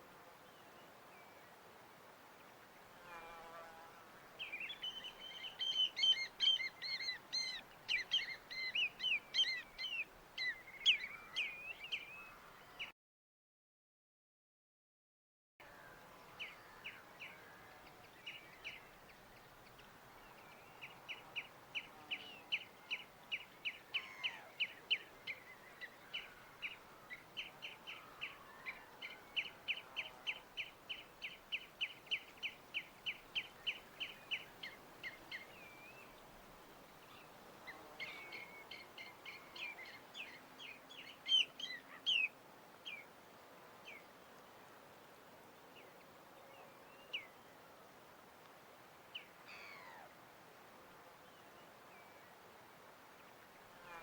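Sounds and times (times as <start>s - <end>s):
faint background hiss: 0.0s - 12.9s, 15.6s - 54.0s.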